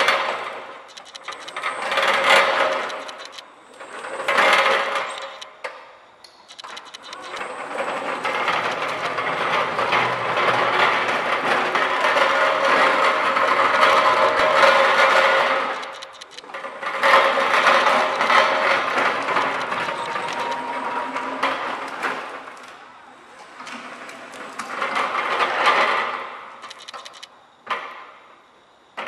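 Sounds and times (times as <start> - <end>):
wheels rattling over ground: 0.0 - 5.7, 6.5 - 27.9
electric pallet truck hum: 0.0 - 29.0.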